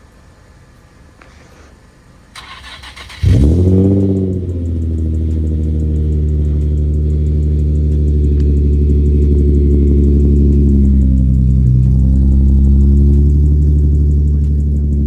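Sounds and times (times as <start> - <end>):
car engine starting and idling: 1.2 - 15.0.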